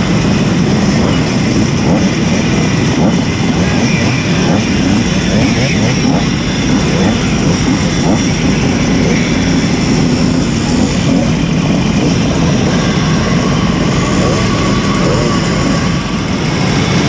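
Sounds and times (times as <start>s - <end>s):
moped engine running: 0.0s - 17.0s
rushing noise: 0.0s - 17.0s.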